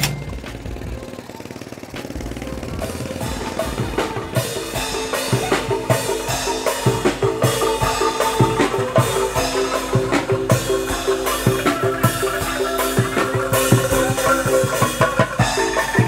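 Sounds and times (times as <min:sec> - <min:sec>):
bamboo xylophones playing: 0:00.0 - 0:16.0
drum kit beat: 0:00.0 - 0:16.0.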